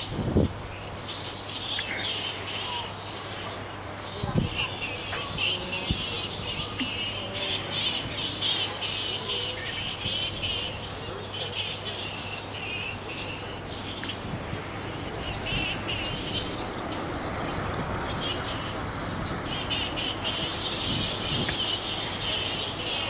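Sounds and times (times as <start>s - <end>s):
bats squeaking and chattering: 0.0s - 23.0s.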